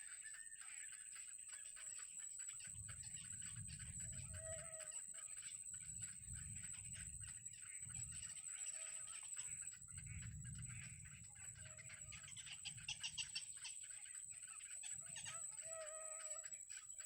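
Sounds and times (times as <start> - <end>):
bird calls and chirps: 0.0 - 17.0.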